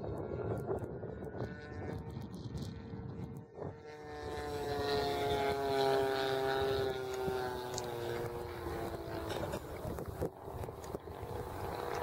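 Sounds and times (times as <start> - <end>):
model aeroplane engine droning: 0.0 - 12.0.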